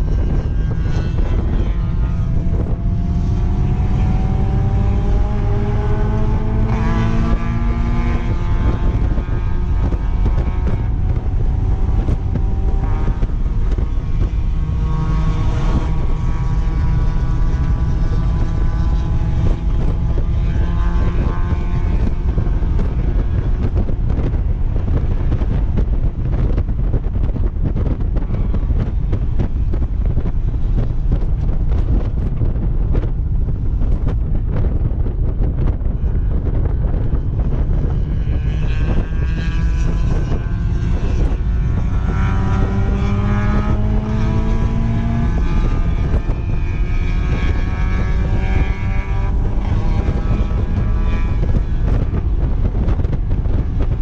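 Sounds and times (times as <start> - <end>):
car engine accelerating: 0.0 - 54.0
wind rumble on microphone: 0.0 - 54.0.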